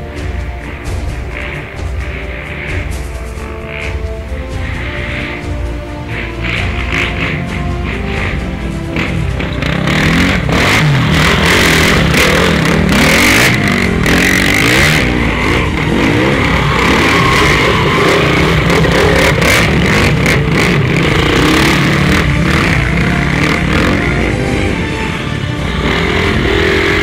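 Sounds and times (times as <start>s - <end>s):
dirt bikes revving past: 0.1s - 27.0s.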